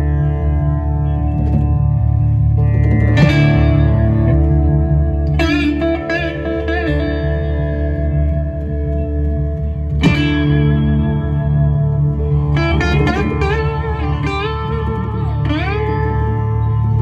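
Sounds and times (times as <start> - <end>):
electric guitar lead: 0.0 - 17.0
steady held low notes: 0.0 - 17.0.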